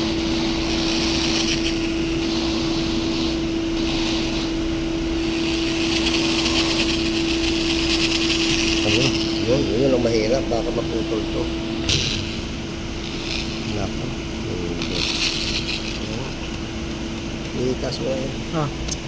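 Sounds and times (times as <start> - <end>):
power drill boring through steel: 0.0 - 16.6
steady hum: 0.0 - 19.0.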